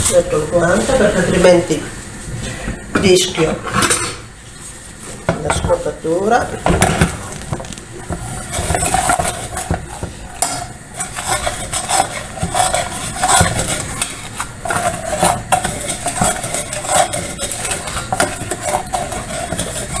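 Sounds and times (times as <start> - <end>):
spoon scraping sugar in pot: 0.0 - 1.8, 5.0 - 20.0.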